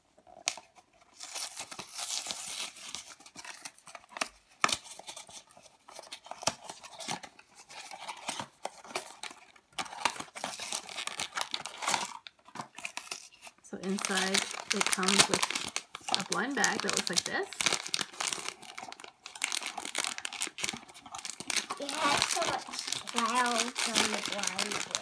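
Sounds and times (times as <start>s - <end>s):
cardboard and paper ripping: 0.4s - 25.0s
plastic bag crinkling: 1.1s - 25.0s.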